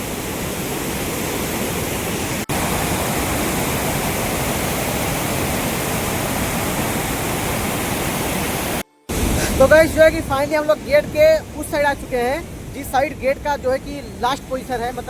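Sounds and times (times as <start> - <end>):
water rushing from dam gates: 0.0 - 15.0.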